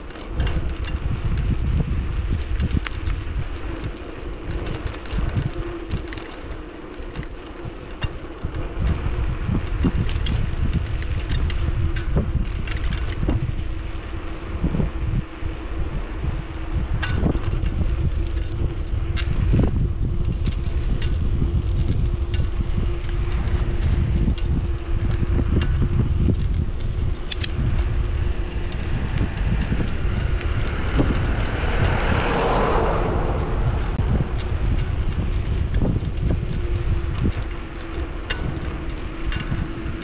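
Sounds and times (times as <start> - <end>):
bicycle clicks and knocks: 0.0 - 40.0
tyres rolling on road: 0.0 - 40.0
wind on microphone: 0.0 - 40.0.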